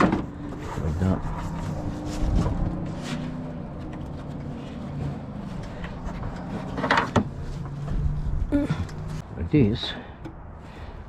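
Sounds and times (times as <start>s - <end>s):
hands handling car parts: 0.0s - 9.2s.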